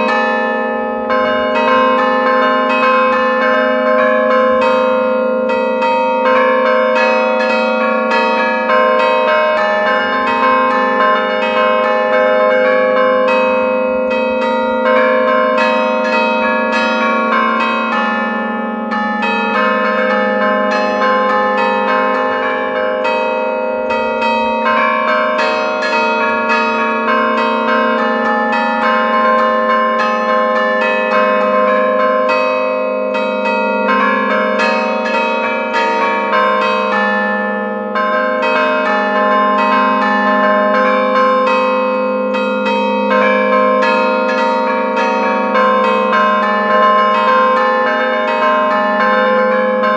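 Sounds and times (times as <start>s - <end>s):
bells played in melodic patterns: 0.0s - 49.9s.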